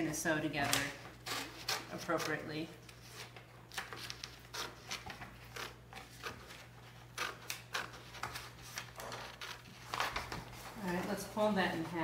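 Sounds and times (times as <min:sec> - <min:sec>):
scissors snipping paper: 0:00.7 - 0:10.4.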